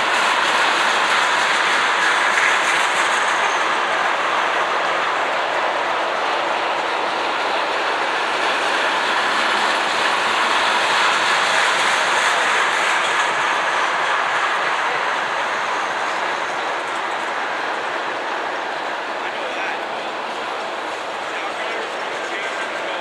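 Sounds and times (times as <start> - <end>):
train wheels rushing on rails: 0.0 - 23.0.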